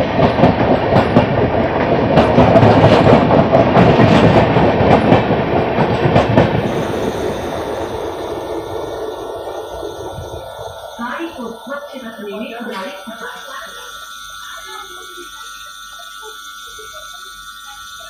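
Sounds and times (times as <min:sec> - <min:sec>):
train coaches rushing past: 0:00.0 - 0:18.0.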